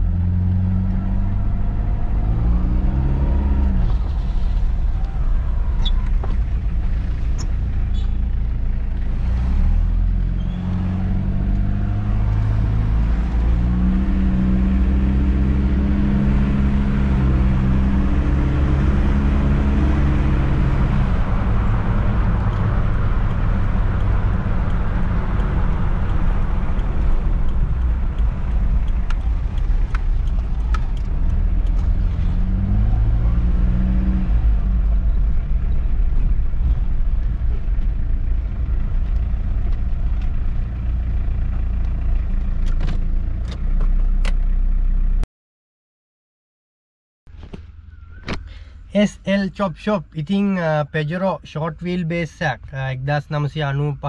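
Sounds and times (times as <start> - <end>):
diesel engine accelerating: 0.0 - 45.2
road and tyre noise: 0.0 - 45.2, 47.3 - 54.0.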